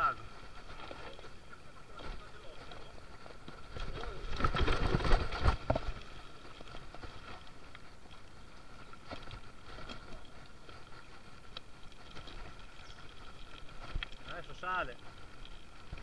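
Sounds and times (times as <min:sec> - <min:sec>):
bike tyres on dirt trail: 0:00.0 - 0:16.0.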